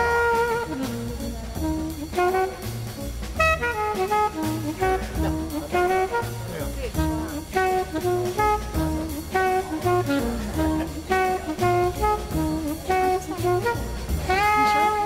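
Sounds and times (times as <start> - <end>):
jazz music with horn melody: 0.0 - 15.0.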